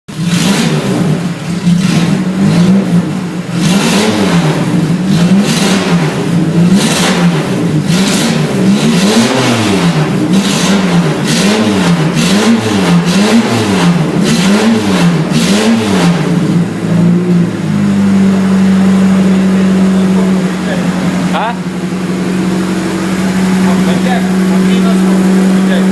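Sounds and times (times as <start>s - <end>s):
car engine revving: 0.1s - 25.9s.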